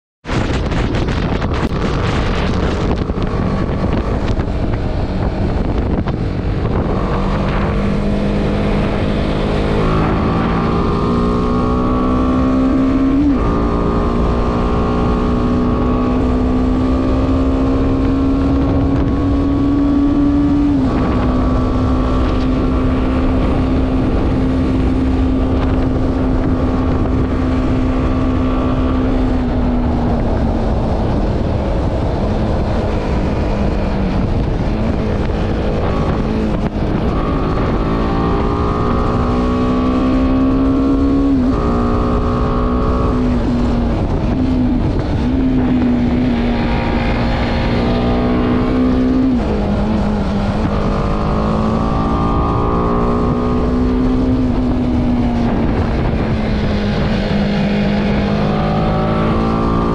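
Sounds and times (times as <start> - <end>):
motorcycle engine accelerating: 0.2 - 59.9
wind on microphone: 0.2 - 59.9.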